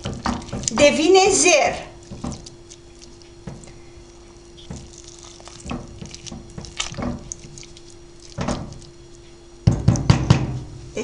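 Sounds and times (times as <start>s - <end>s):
spoon stirring wet squelches: 0.0s - 10.1s
faint steady hum: 0.0s - 11.0s.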